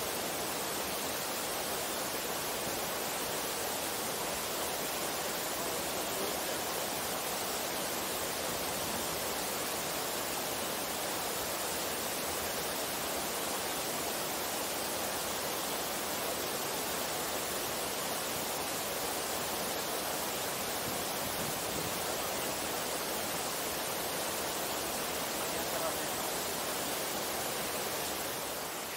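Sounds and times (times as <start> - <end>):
water rushing over rocks: 0.0 - 28.9.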